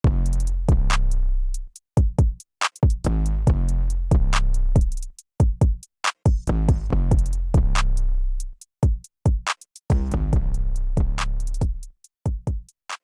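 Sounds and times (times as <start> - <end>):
electronic music with drum-machine beat: 0.0 - 13.0.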